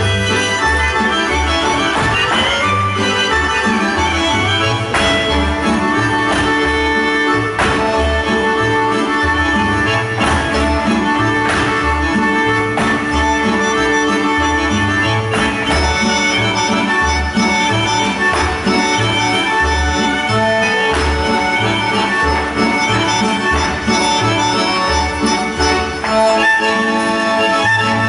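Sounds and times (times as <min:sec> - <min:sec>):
accordion: 0:00.0 - 0:28.0
double bass beat: 0:00.0 - 0:28.0
folk dance band playing: 0:00.0 - 0:28.0.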